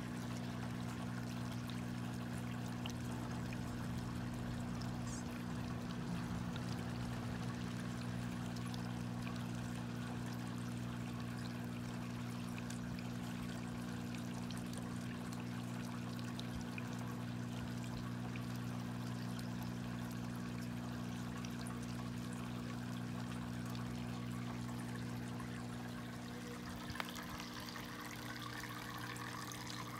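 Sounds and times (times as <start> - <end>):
low even hum: 0.0 - 29.9
running water trickling: 0.0 - 29.9.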